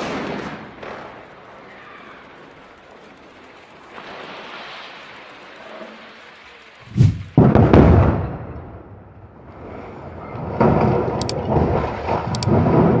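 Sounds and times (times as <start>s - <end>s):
demolition blasts: 0.0s - 6.2s, 6.8s - 13.0s.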